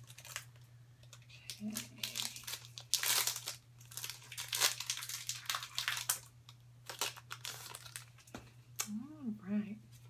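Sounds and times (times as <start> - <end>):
wrapper crinkling and tearing: 0.0 - 8.9.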